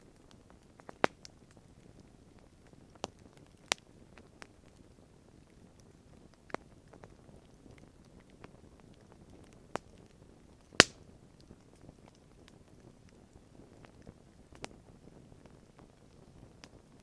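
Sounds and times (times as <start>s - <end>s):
campfire wood popping: 0.1s - 17.0s.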